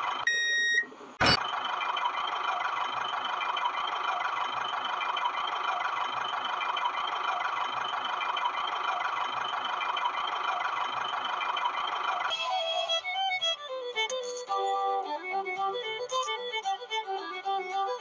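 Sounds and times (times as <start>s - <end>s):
toy tractor engine drone: 0.0s - 18.0s.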